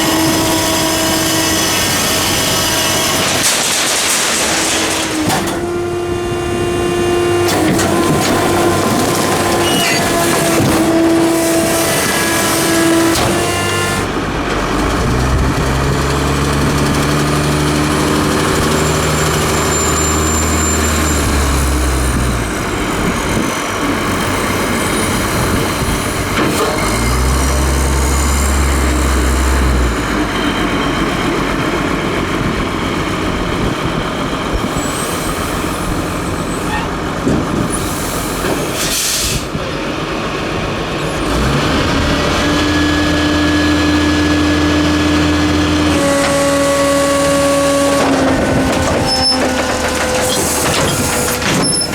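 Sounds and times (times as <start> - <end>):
diesel truck engine revving: 0.0 - 51.9
hydraulic pump whine: 0.0 - 51.9.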